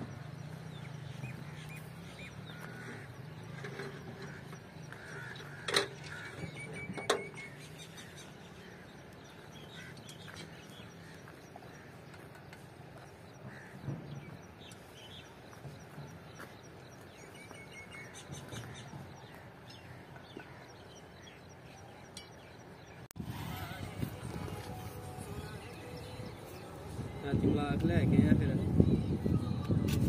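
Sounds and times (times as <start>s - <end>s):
birds chirping: 0.0s - 29.6s.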